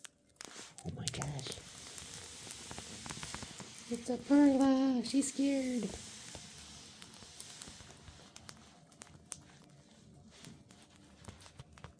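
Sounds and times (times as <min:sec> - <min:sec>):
birds pecking and crunching popcorn: 0:00.0 - 0:11.9.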